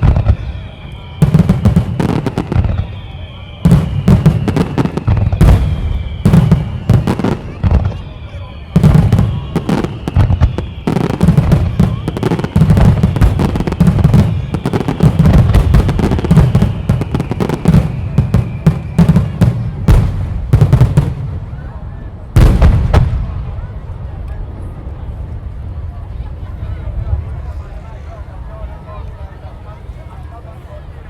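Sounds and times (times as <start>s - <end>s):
fireworks booms and crackles: 0.0s - 27.8s.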